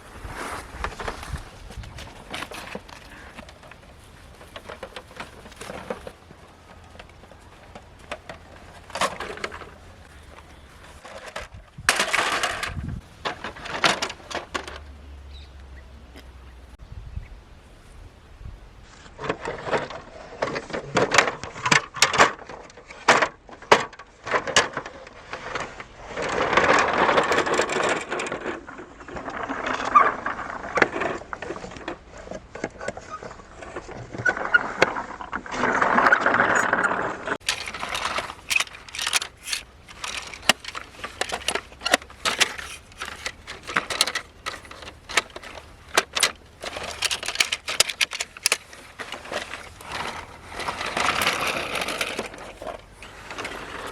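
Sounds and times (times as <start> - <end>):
toy vehicles clicking and knocking: 2.2 - 15.0, 19.2 - 53.9.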